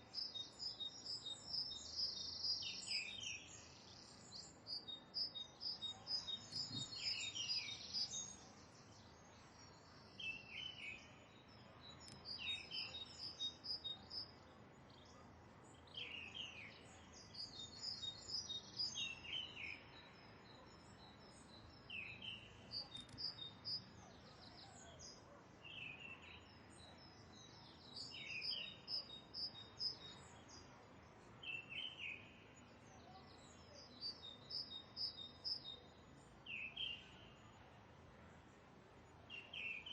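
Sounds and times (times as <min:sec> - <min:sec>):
birds chirping: 0:00.0 - 0:32.4
faint background hiss: 0:00.0 - 0:39.9.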